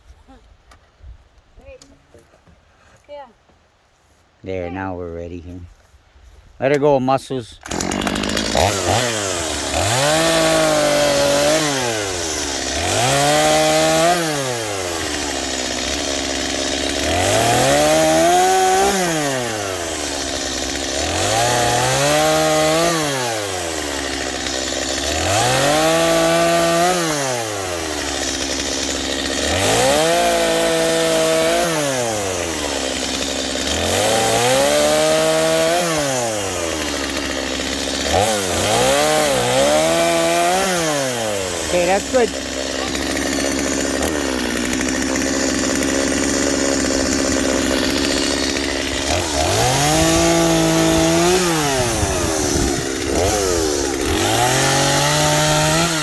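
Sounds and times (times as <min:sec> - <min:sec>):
chainsaw cutting wood: 0:07.5 - 0:56.0.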